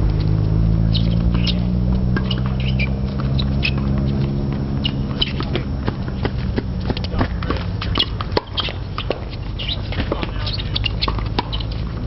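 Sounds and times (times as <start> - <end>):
steady low hum: 0.0 - 12.0
tennis ball strikes: 0.1 - 12.0
shoe squeaks: 0.2 - 12.0.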